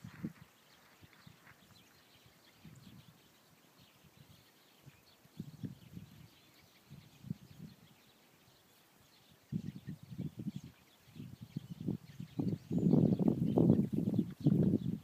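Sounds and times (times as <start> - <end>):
wind buffeting microphone: 0.0 - 3.3, 4.0 - 8.0, 9.4 - 15.0
distant small birds chirping: 0.0 - 15.0.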